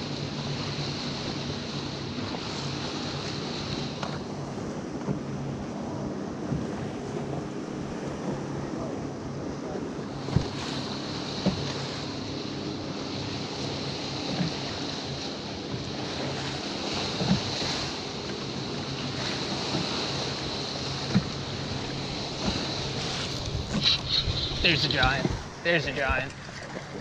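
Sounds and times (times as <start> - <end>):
water lapping against boat: 0.0 - 27.0
wind on microphone: 0.0 - 27.0.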